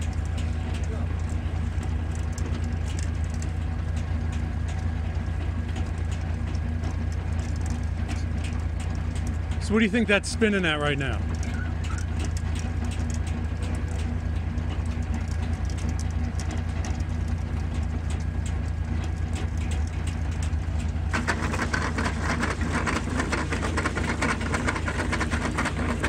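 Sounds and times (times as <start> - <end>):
dense metallic clatter: 0.0 - 26.0
sawmill drone with fast ticking: 0.0 - 26.0.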